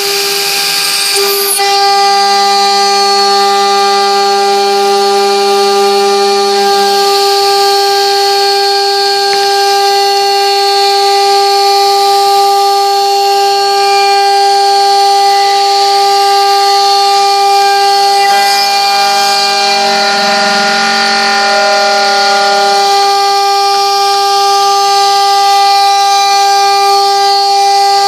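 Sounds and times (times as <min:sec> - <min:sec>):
router spindle high-pitched whine: 0:00.0 - 0:28.0.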